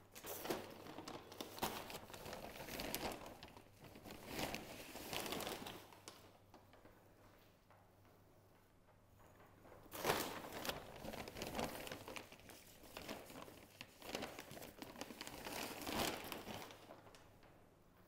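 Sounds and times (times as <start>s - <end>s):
plastic bag crinkling and rustling: 0.0s - 7.5s, 9.2s - 17.7s.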